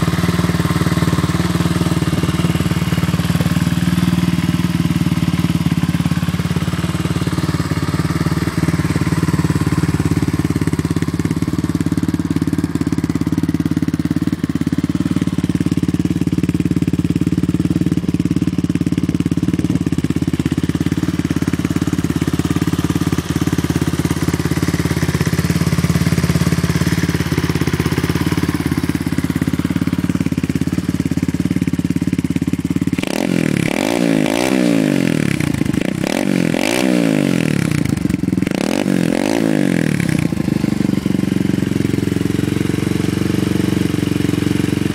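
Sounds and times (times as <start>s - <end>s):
motorbike engine idling and revving: 0.0s - 44.9s.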